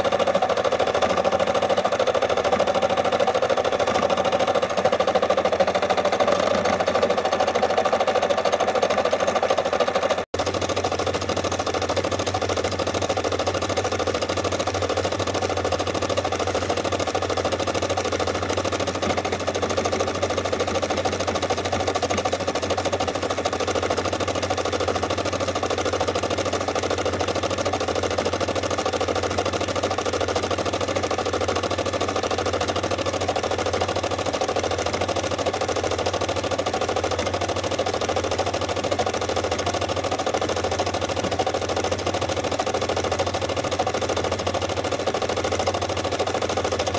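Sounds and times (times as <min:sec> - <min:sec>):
embroidery machine stitching: 0:00.0 - 0:46.9.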